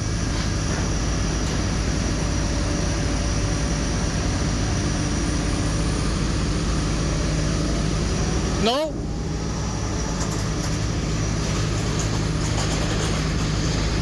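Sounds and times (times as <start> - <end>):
aircraft ground machinery drone: 0.0 - 14.0.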